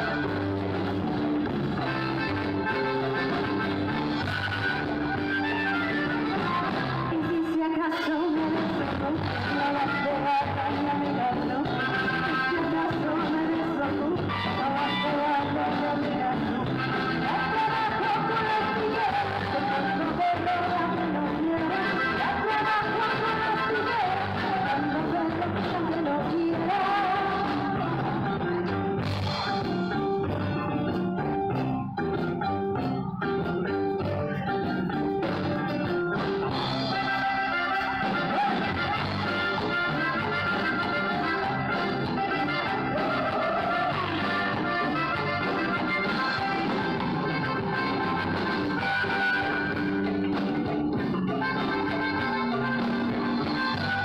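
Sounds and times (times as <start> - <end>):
accordion: 0.0 - 54.0
electric guitar: 0.0 - 54.0
keyboard: 0.0 - 54.0
drums in dance rhythm: 8.3 - 54.0.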